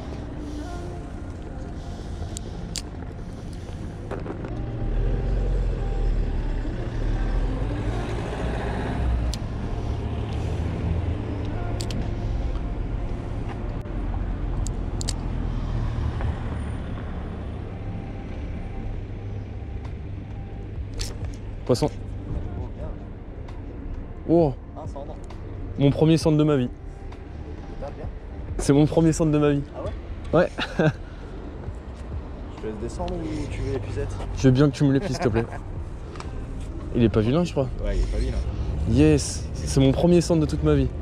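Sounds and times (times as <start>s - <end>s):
heavy vehicle engine rumbling: 0.0s - 24.3s, 26.3s - 41.0s.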